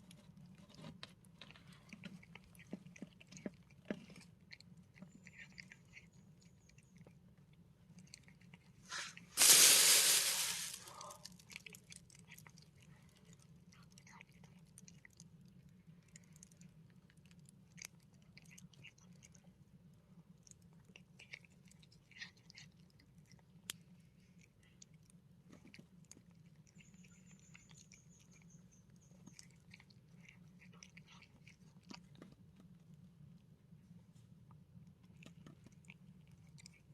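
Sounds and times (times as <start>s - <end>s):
animal chewing and crunching: 0.0s - 36.9s.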